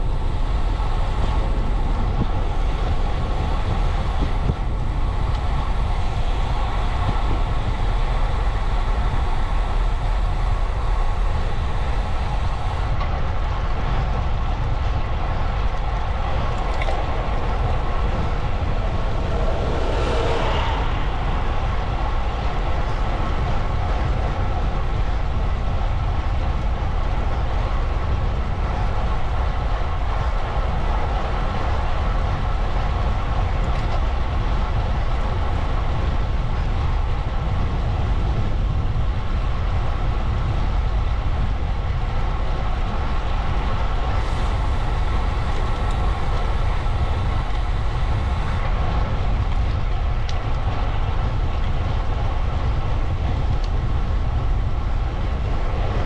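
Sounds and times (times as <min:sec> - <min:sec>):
bicycle road noise rumble: 0:00.0 - 0:56.0
wind buffeting: 0:00.0 - 0:56.0.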